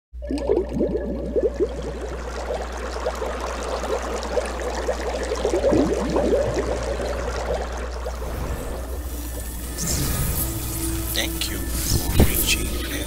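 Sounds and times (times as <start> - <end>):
water bubbling and gurgling: 0.2 - 11.0
steady low hum: 0.2 - 13.0.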